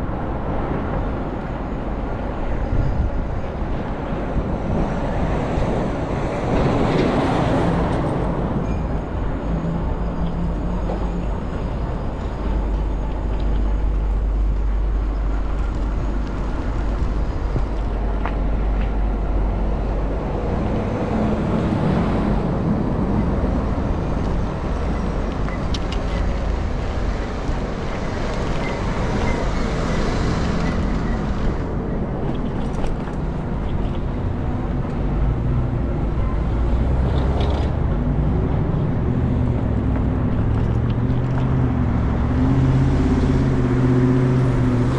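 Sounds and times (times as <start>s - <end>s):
bus rumbling on road: 0.0s - 44.9s.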